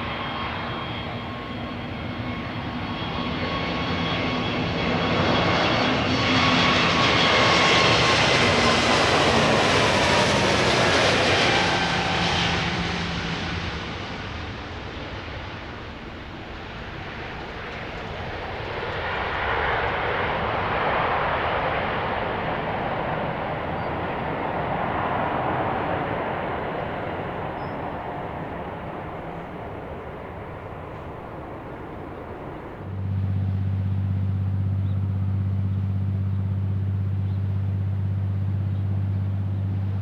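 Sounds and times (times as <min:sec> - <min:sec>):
jet engine roar: 0:00.0 - 0:40.0
jet engine whine: 0:00.0 - 0:40.0.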